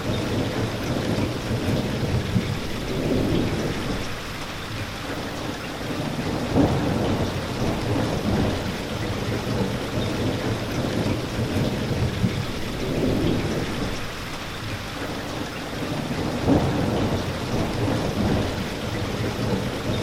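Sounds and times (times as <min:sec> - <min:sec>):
continuous low rumble: 0:00.0 - 0:20.0
heavy rain falling: 0:00.0 - 0:20.0.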